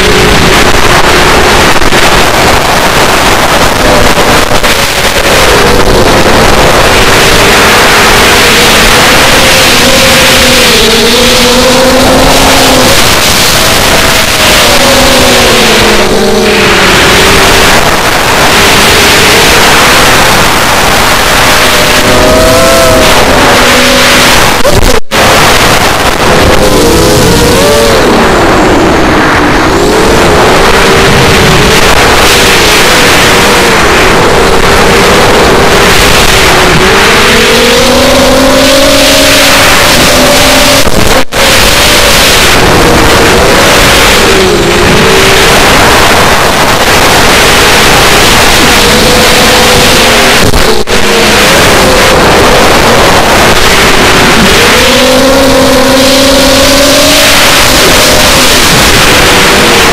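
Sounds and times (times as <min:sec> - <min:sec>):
quadcopter motors whining: 0:00.0 - 0:59.9.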